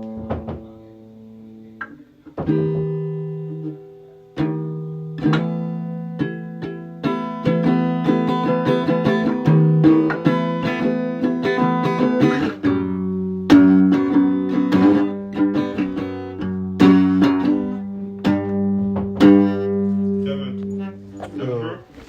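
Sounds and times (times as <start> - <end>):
plucked guitar: 0.0 - 22.0.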